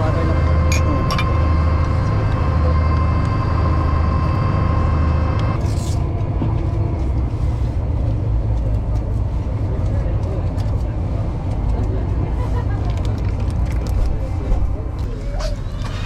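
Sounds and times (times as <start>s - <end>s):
boat engines low drone: 0.0s - 16.0s
higher steady hum: 0.0s - 16.0s.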